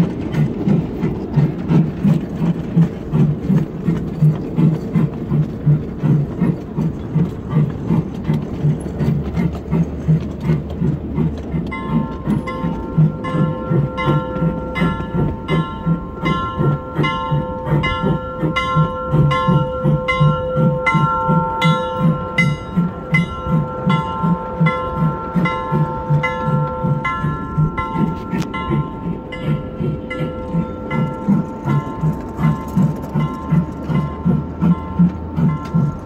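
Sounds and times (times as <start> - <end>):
miniature train wheels clacking: 0.0 - 36.0.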